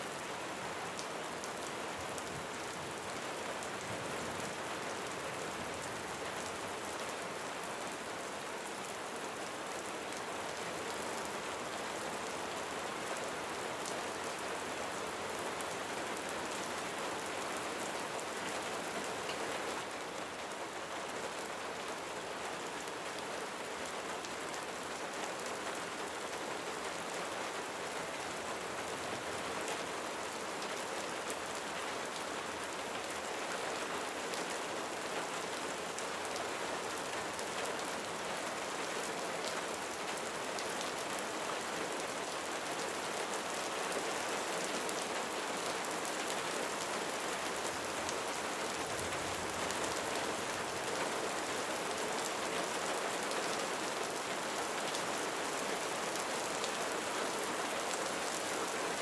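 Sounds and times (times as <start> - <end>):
rain on a roof: 0.0 - 59.0.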